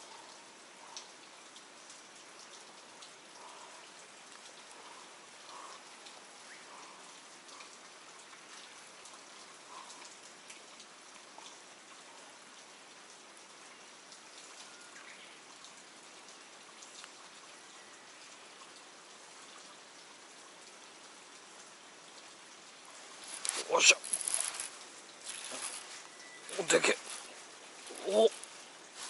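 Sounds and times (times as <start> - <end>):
light rain on water: 0.0 - 29.0
raindrop ticks: 0.0 - 29.0.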